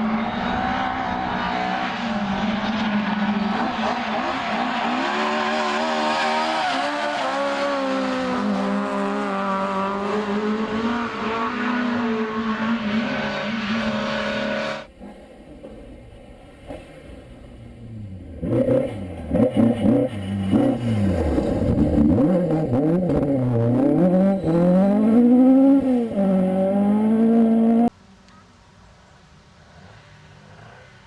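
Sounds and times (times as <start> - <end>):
rally car engine revving: 0.0 - 15.0, 16.6 - 27.9.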